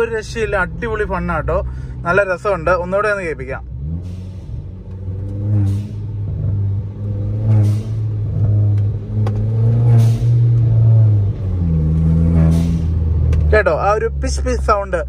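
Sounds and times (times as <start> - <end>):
car engine pulling: 0.0 - 15.0.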